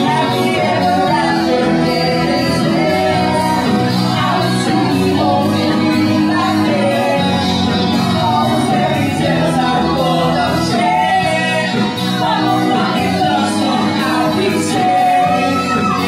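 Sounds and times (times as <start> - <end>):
live band playing pop song: 0.0 - 16.0
woman singing: 0.0 - 16.0.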